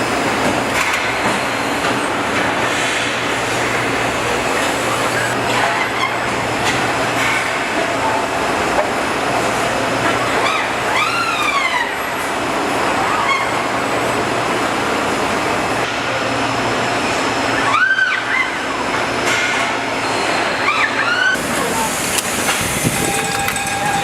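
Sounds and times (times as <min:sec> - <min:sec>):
mechanical noise with low hum: 0:00.0 - 0:24.0.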